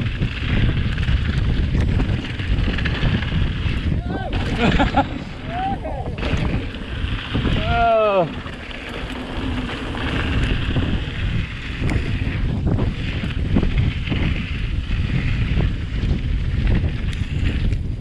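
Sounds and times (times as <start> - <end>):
bike knocks and rattles: 0.0 - 18.0
tyres rumbling on dirt trail: 0.0 - 18.0
wind buffeting microphone: 0.0 - 18.0.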